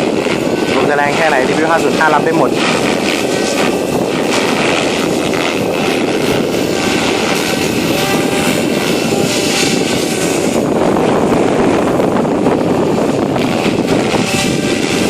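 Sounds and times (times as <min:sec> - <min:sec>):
rc helicopter rotor whine: 0:00.0 - 0:15.0
wind noise on microphone: 0:00.0 - 0:15.0.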